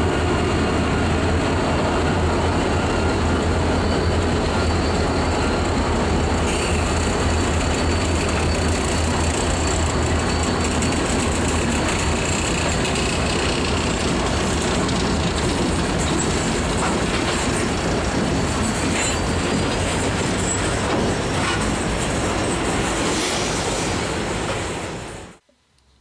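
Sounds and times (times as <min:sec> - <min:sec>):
steel wheels rumbling on rail: 0:00.0 - 0:25.4.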